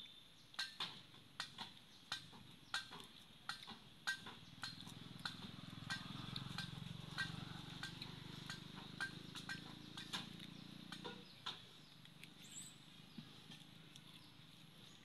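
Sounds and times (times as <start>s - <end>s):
monkey chewing wet mouth clicks: 0.5s - 14.8s.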